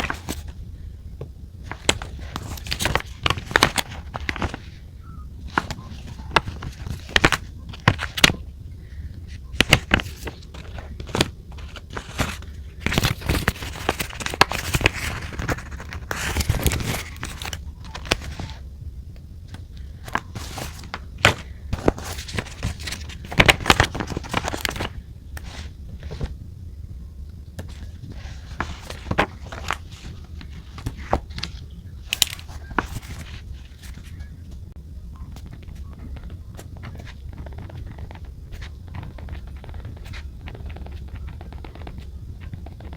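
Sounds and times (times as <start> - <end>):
paper taps scratches and rustles: 0.0 - 0.6, 1.2 - 4.8, 5.4 - 18.6, 19.5 - 26.4, 27.5 - 34.6, 35.2 - 42.9.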